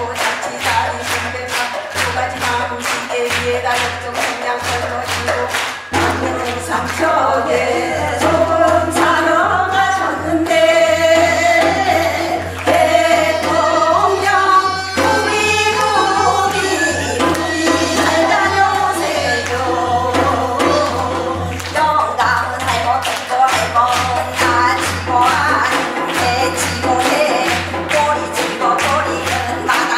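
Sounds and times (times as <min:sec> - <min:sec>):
people singing folk song: 0:00.0 - 0:29.9
sharp percussive strokes: 0:00.0 - 0:29.9.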